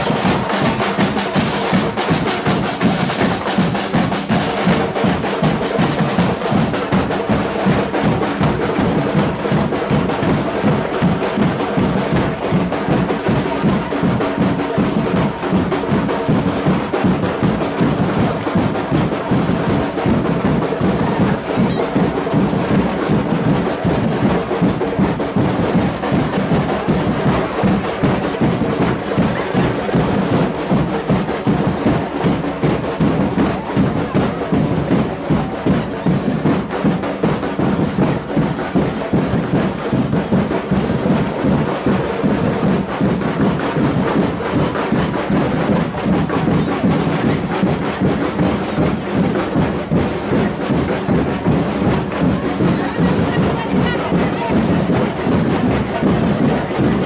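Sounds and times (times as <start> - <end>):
samba percussion band drumming: 0.0 - 57.0.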